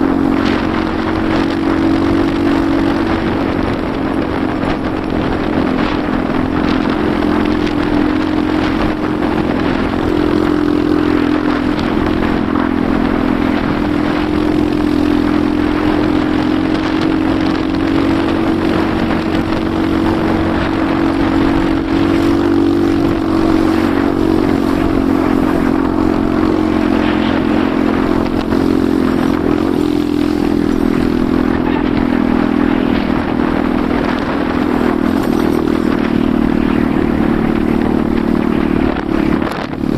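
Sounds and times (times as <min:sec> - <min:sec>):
motorcycle engine running: 0:00.0 - 0:39.9
motorcycle rattling over rough ground: 0:00.0 - 0:39.9.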